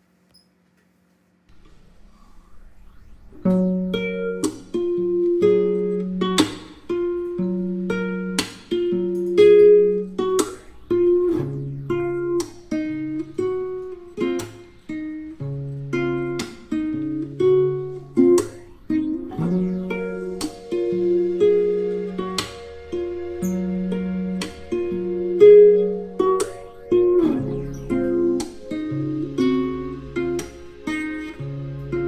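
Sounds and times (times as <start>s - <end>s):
acoustic guitar music: 1.5s - 32.0s.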